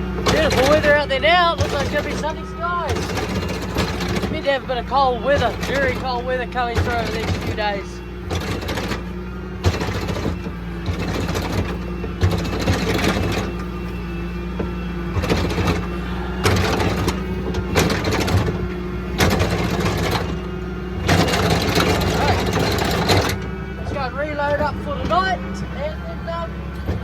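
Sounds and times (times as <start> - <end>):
rattling and knocking: 0.0 - 27.0
vehicle engine running: 0.0 - 27.0.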